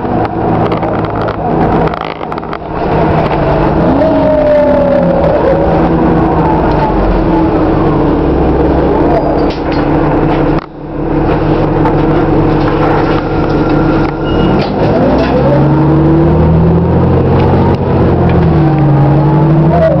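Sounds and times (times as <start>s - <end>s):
bus engine drone: 0.0s - 20.0s
rising drivetrain whine: 0.0s - 20.0s.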